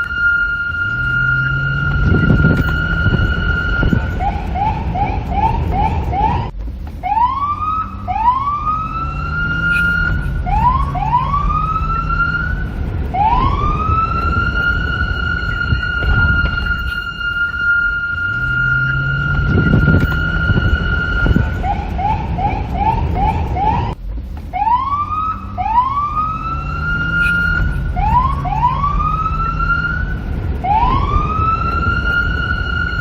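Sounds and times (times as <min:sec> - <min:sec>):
low rumble: 0:00.0 - 0:33.0
police car siren: 0:00.0 - 0:33.0.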